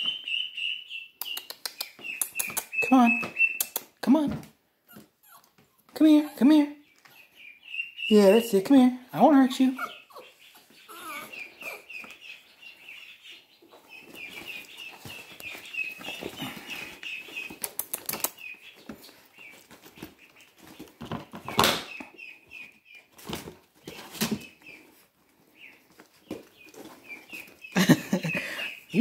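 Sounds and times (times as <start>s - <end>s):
small bird chirping: 0.0s - 4.1s, 4.9s - 29.0s.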